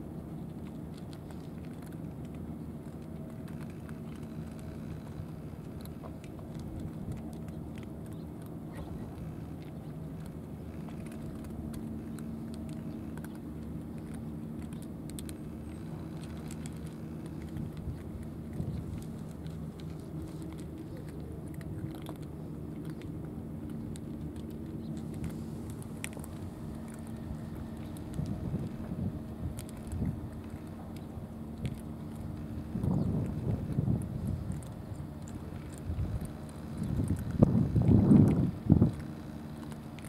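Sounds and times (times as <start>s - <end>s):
cats chewing food: 0.0s - 40.0s
low engine hum: 0.0s - 40.0s.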